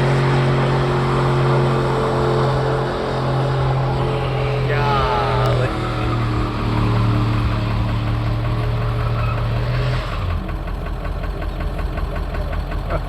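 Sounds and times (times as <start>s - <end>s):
truck engine revving and idling: 0.0s - 13.0s.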